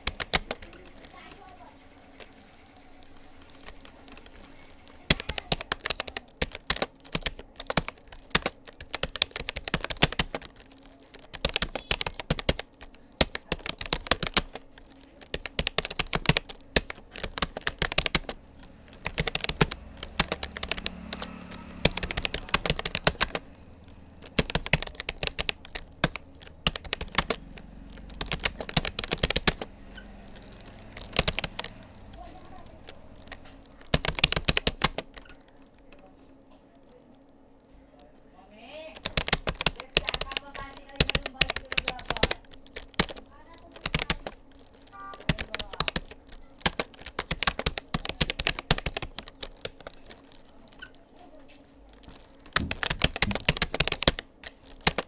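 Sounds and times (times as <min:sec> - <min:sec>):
keyboard typing: 0:00.0 - 0:37.4, 0:38.9 - 0:55.0.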